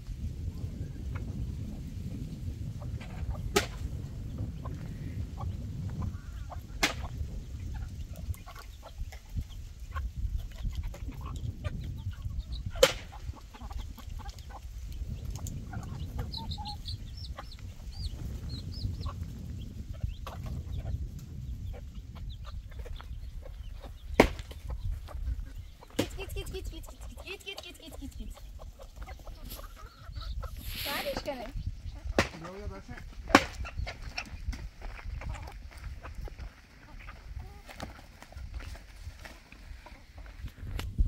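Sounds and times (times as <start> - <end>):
chickens clucking: 0.5 - 41.0.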